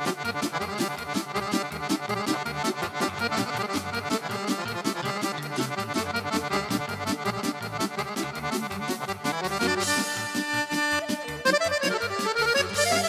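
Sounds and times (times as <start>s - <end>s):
folk dance band music: 0.0s - 13.0s.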